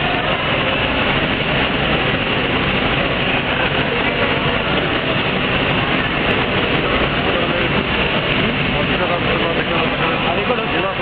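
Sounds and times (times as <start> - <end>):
loud machine noise: 0.0 - 11.0.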